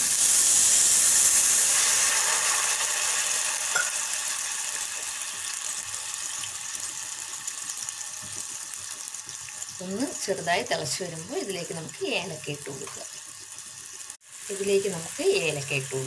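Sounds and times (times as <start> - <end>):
water sizzling in hot saucepan: 0.0 - 16.0.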